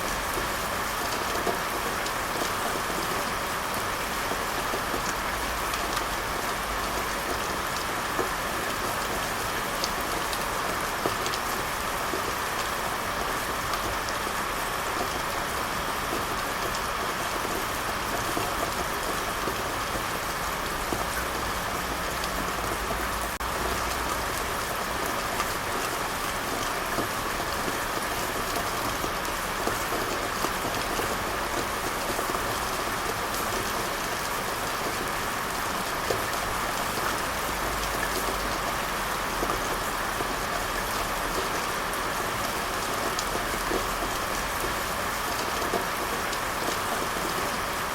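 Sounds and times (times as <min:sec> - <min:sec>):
steady rain patter: 0:00.0 - 0:47.9.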